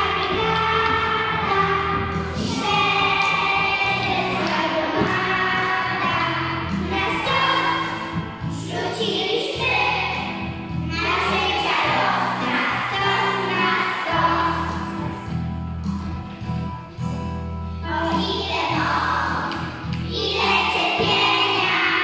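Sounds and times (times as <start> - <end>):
children singing: 0.0 - 15.0, 17.9 - 22.0.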